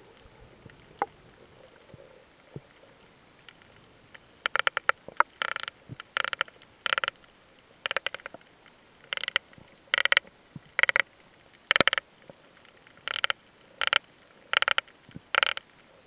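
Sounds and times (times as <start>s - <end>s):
underwater swimming swishes: 0.0s - 16.0s.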